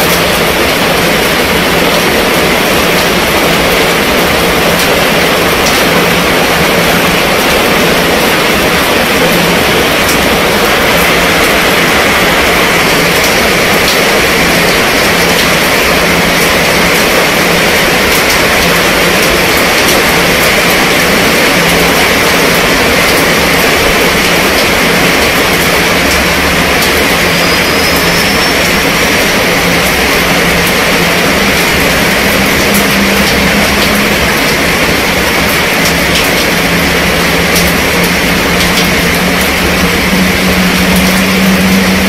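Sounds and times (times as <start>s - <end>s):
heavy rain on tent fabric: 0.0s - 42.0s.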